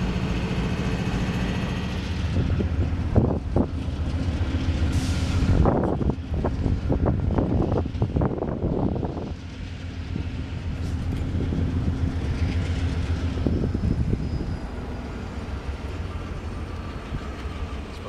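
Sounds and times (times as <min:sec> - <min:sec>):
diesel locomotive engine rumble: 0:00.0 - 0:18.0
train wheel clatter: 0:00.0 - 0:18.0.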